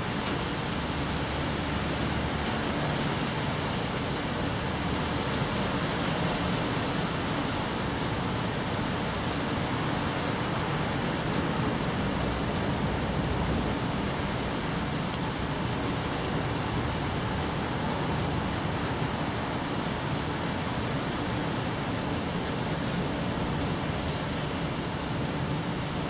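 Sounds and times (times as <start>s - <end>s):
rain on leaves and grass: 0.0s - 26.0s.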